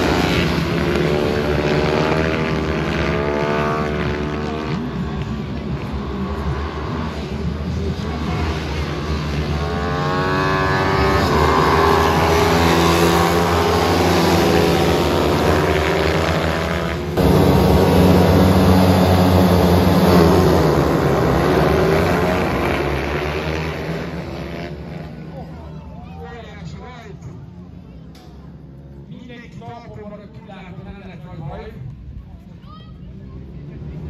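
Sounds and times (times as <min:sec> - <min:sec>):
pitbike engines racing: 0:00.0 - 0:34.0.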